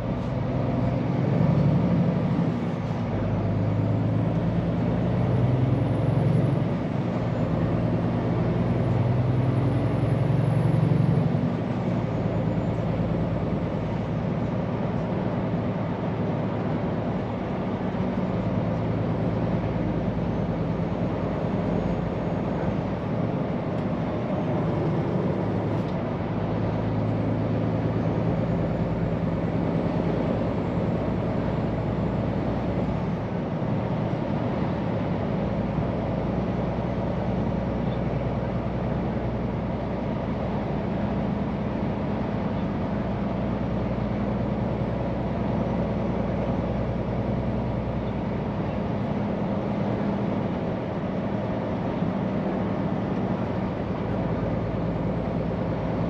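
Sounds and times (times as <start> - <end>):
road and tyre noise: 0.0 - 56.0
truck diesel engine running: 0.0 - 56.0.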